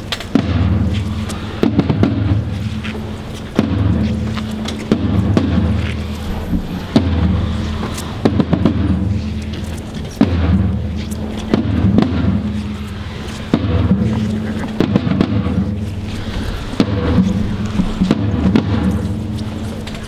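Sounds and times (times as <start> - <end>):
band holding low notes: 0.0 - 20.0
heavy drum strokes: 0.0 - 20.0.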